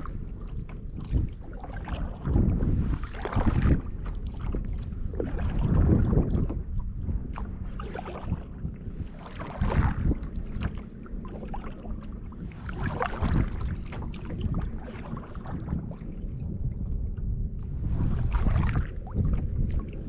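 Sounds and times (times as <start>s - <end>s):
paddle splashing in water: 0.0s - 16.2s, 17.8s - 20.0s
water lapping against plastic hull: 0.0s - 20.0s
wind rumble on microphone: 0.0s - 20.0s.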